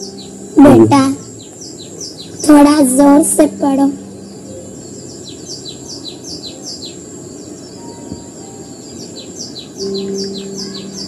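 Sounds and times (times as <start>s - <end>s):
open-air background hiss: 0.0s - 11.0s
small bird chirping: 0.0s - 11.0s.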